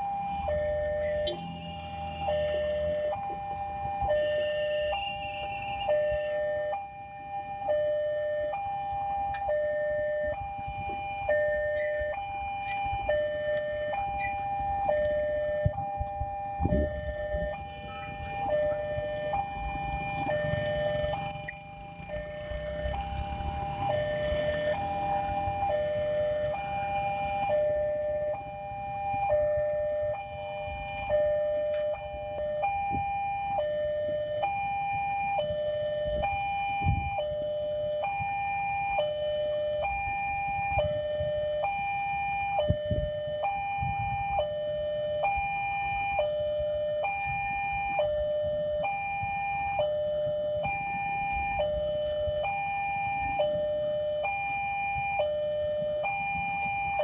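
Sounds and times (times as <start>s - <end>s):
two-tone crossing alarm: 0.0s - 57.0s.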